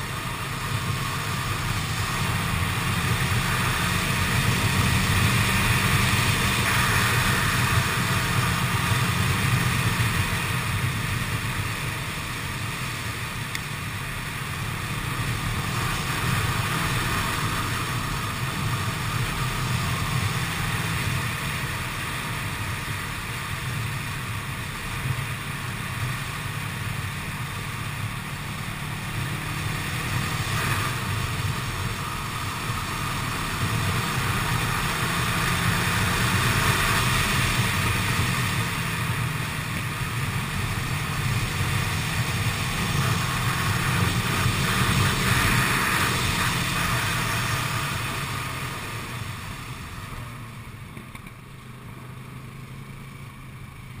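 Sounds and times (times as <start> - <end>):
motorcycle engine droning: 0.0 - 54.0.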